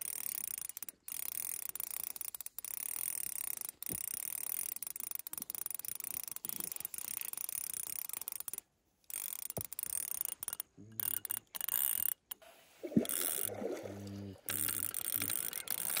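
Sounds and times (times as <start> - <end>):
fishing reel clicking rapidly: 0.0 - 12.4, 13.0 - 13.5, 14.5 - 16.0.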